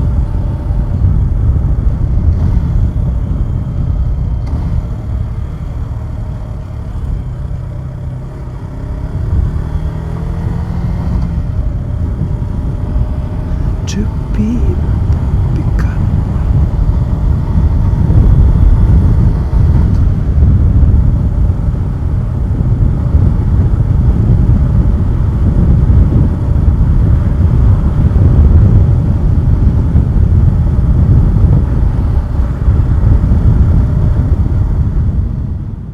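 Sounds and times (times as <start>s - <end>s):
motorcycle engine running: 0.0s - 35.9s
wind buffeting microphone: 0.0s - 35.9s.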